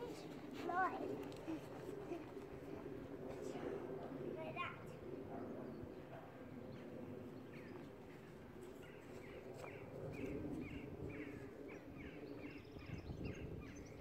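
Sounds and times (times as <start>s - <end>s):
faint low outdoor hum: 0.0s - 14.0s.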